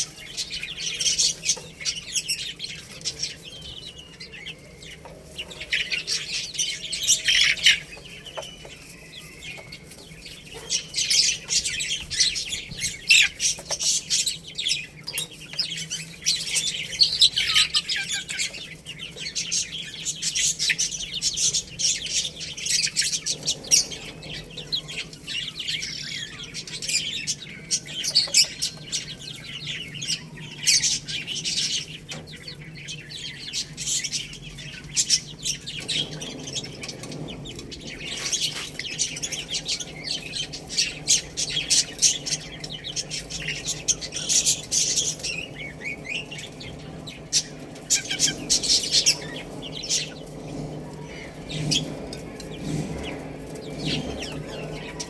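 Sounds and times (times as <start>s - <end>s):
baby chicks peeping: 0.0s - 55.0s.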